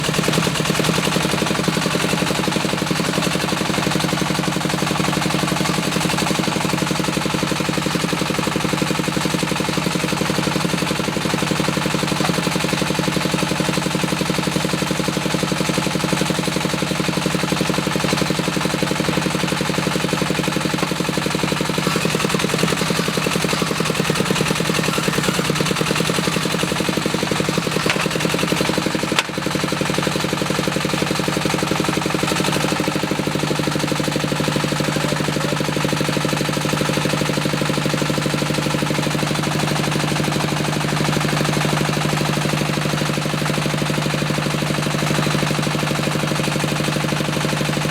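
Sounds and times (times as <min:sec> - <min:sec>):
diesel engine chugging: 0:00.0 - 0:47.9.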